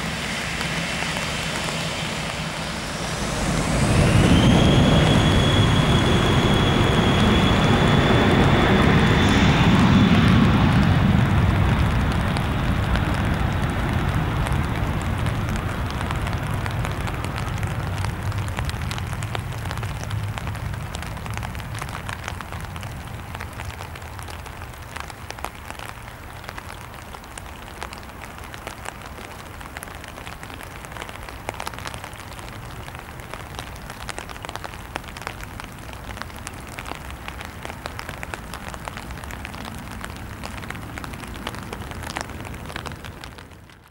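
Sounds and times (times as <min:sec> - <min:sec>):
jet engine rumble: 0:00.0 - 0:25.3, 0:30.4 - 0:43.9
dense crackling jet noise: 0:00.0 - 0:43.9.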